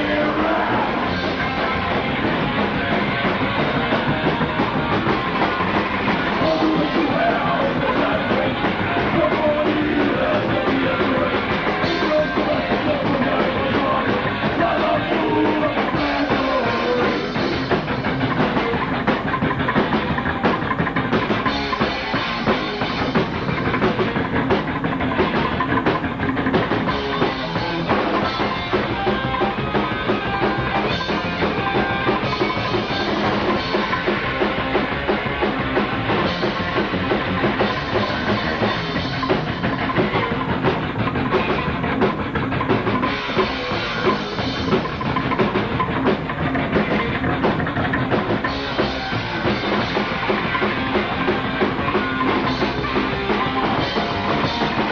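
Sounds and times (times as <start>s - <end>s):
drum kit: 0.0s - 54.9s.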